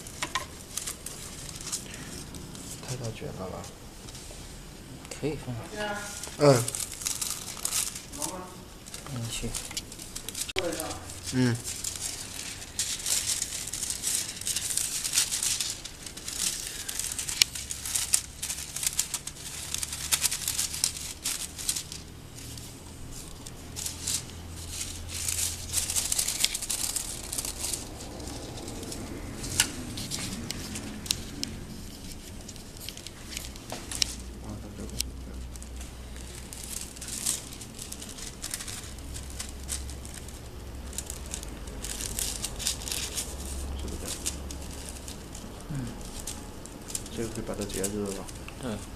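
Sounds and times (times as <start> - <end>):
metallic foil crinkling: 0.0 - 4.5, 5.1 - 48.9.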